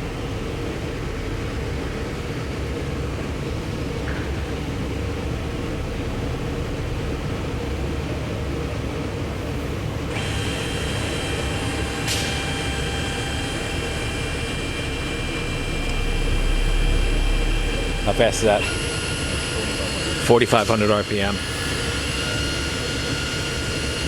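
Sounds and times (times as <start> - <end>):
lathe mechanical hum: 0.0 - 24.0
high-pitched spindle whine: 3.9 - 24.0.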